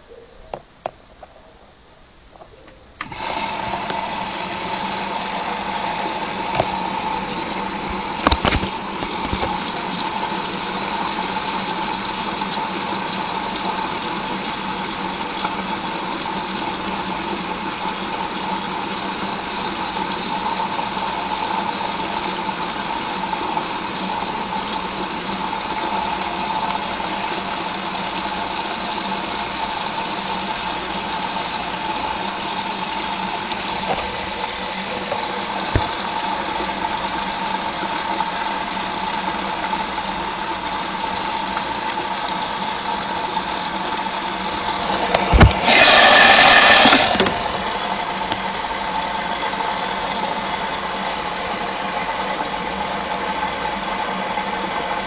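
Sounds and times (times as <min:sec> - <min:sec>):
washing machine hum: 0:00.0 - 0:55.0
water rushing into washing machine: 0:03.0 - 0:55.0.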